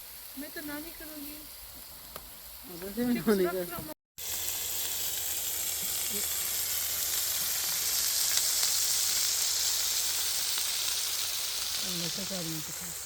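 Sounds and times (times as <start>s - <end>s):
sizzling hiss: 0.0s - 13.0s.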